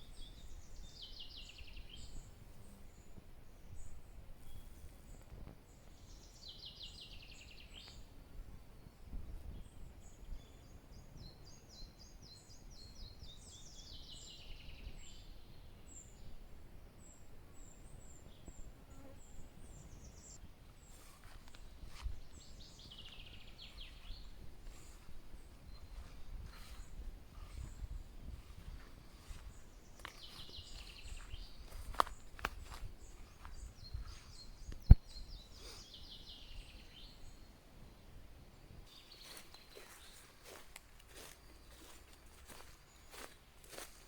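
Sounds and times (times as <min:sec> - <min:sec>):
songbirds singing: 0:00.0 - 0:44.0.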